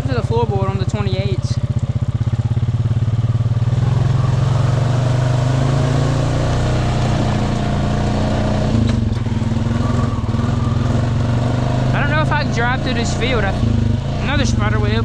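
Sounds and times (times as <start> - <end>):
atv engine running under load: 0.0 - 15.0.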